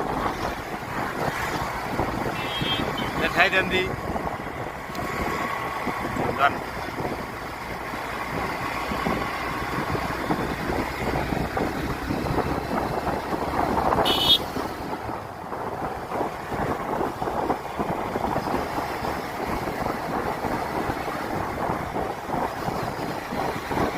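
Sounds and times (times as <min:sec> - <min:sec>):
vehicle road noise: 0:00.0 - 0:23.9
wind buffeting microphone: 0:00.0 - 0:23.9.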